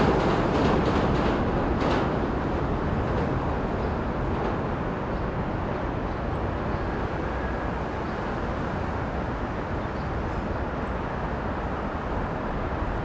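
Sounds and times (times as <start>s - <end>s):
train rumbling on a bridge: 0.0s - 13.0s.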